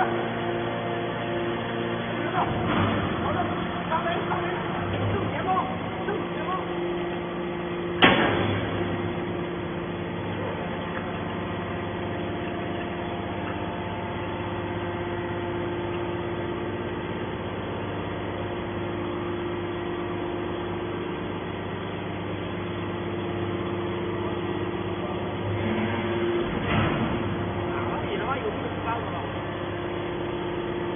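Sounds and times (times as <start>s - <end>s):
hydraulic baler humming: 0.0s - 30.9s.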